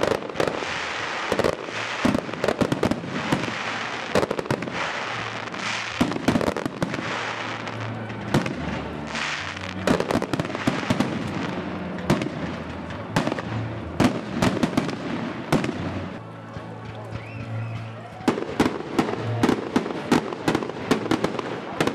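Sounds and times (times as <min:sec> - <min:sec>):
crackling hiss of fireworks: 0:00.0 - 0:21.9.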